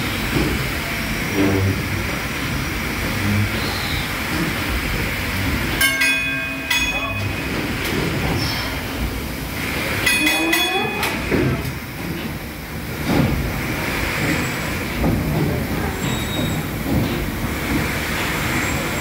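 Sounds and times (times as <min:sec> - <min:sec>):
steam engine running rhythmically: 0:00.0 - 0:19.0.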